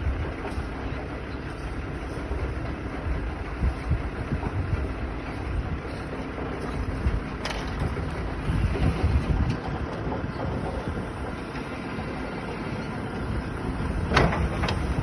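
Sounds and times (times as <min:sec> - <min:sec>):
tractor engine: 0:00.0 - 0:15.0.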